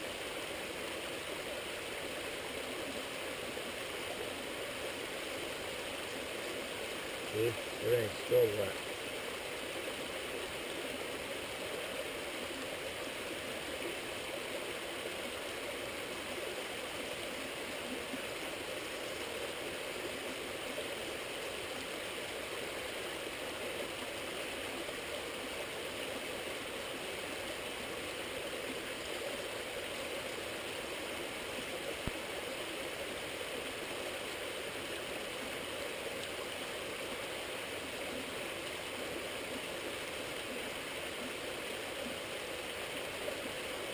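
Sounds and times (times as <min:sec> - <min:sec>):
water rushing in a stream: 0:00.0 - 0:43.9.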